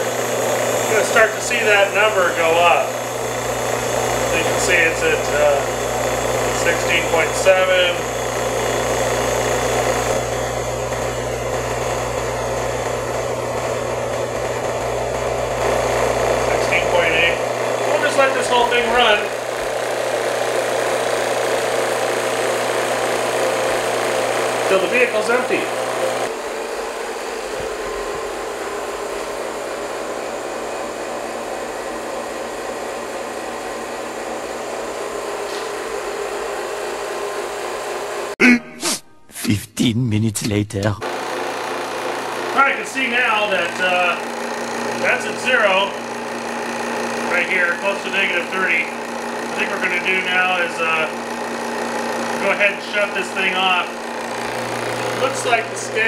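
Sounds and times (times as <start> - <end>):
recovery machine humming: 0.0 - 39.4, 40.5 - 56.0.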